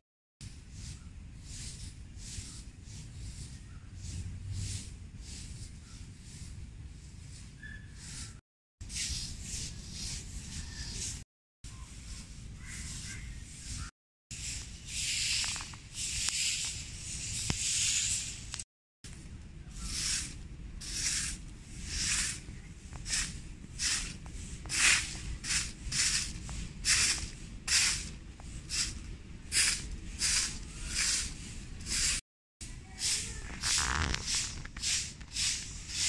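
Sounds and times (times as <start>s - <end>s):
twig broom sweeping dirt: 0.4s - 36.0s.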